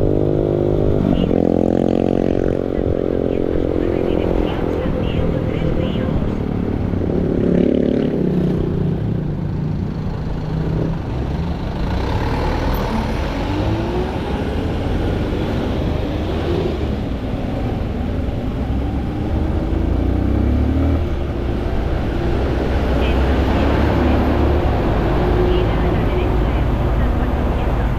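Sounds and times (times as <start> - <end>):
motorcycle engine revving: 0.0 - 27.9
wind and road noise: 0.0 - 27.9.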